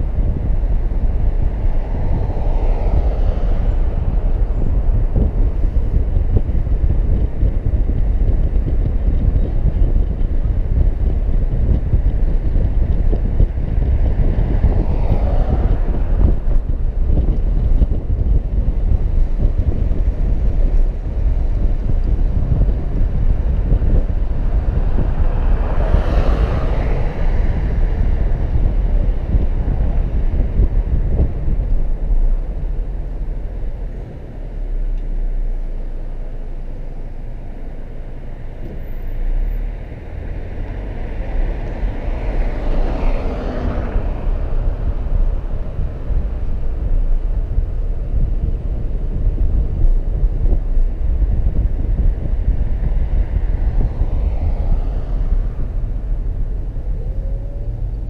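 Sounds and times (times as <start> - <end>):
car road noise rumble: 0.0 - 58.0
passing vehicles: 0.0 - 58.0
wind buffeting microphone: 0.0 - 58.0.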